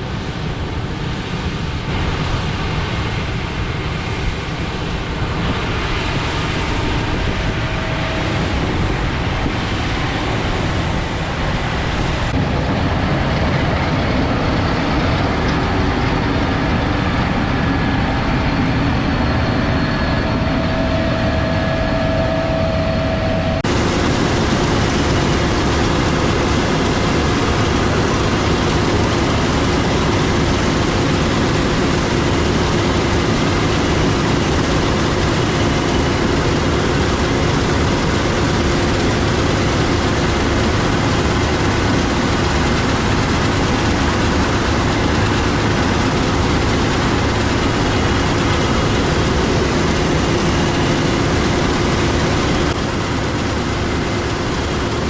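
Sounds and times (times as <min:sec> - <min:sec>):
heavy farm machinery running: 0:00.0 - 0:55.0.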